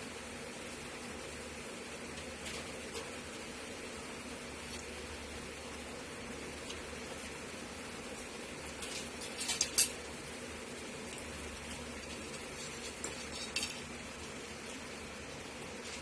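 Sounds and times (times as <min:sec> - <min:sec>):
steady faint hiss: 0:00.0 - 0:16.0.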